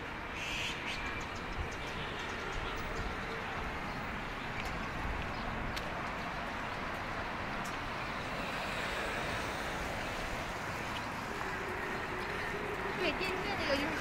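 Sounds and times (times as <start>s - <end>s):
continuous outdoor rush: 0.0s - 14.0s.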